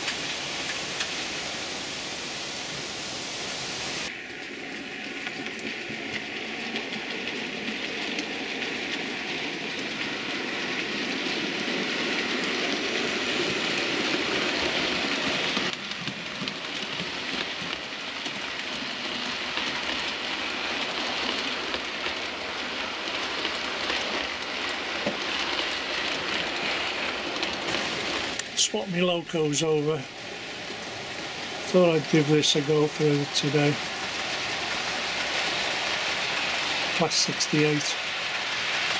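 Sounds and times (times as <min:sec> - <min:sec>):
model train rolling whir: 0:00.0 - 0:38.9.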